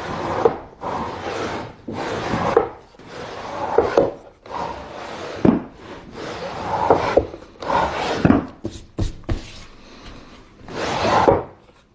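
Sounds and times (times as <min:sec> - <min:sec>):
hand tool scraping wood: 0:00.0 - 0:11.9.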